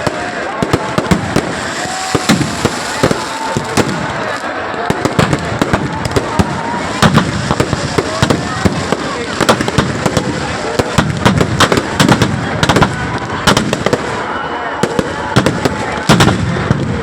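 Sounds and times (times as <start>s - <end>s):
crowd voices: 0.0s - 17.0s
firecrackers cracking: 0.0s - 17.0s.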